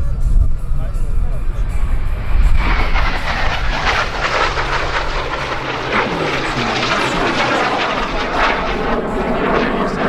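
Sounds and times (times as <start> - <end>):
jet passing low and fast: 0.0 - 10.0.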